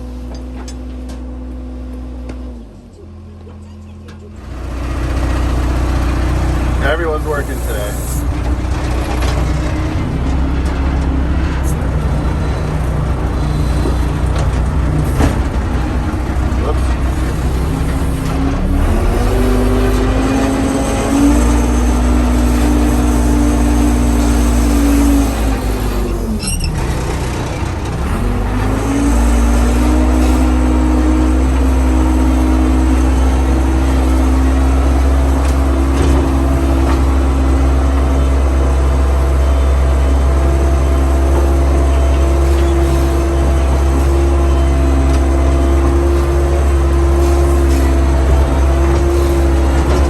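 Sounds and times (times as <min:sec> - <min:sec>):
backhoe engine running: 0:00.0 - 0:50.0.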